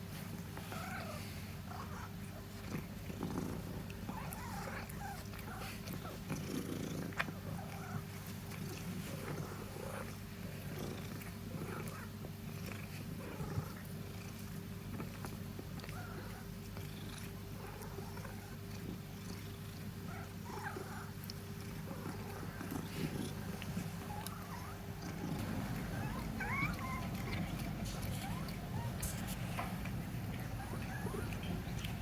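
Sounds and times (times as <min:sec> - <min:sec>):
cat purring: 0:00.1 - 0:32.0.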